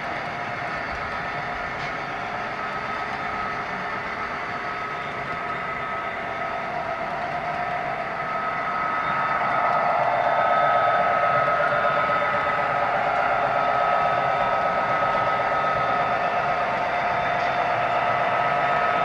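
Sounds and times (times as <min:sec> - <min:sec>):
model train rolling on track: 0:00.0 - 0:19.0
train whine: 0:00.0 - 0:19.0.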